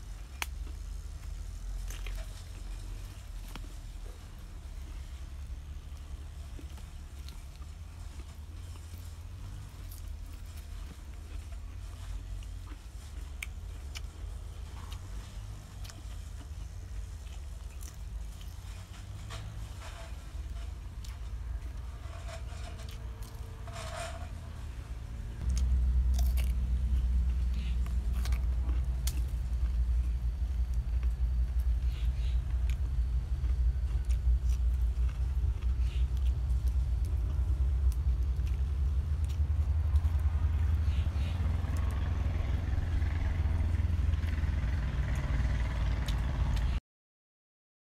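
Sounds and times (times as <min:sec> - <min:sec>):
wet chewing sounds: 0:00.0 - 0:23.6, 0:25.4 - 0:46.8
fried fish crunching: 0:00.0 - 0:24.3, 0:25.4 - 0:46.8
low rumble: 0:00.0 - 0:46.8.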